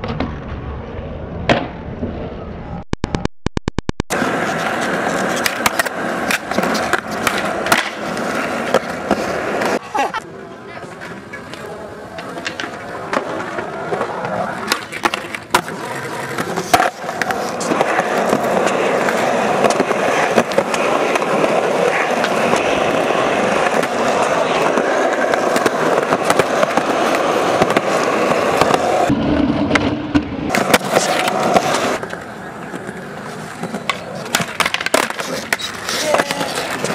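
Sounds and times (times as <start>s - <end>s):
skateboard wheels rolling on concrete: 0.0s - 3.2s, 4.1s - 36.9s
skateboard clacking on ground: 4.1s - 29.1s, 29.7s - 36.9s.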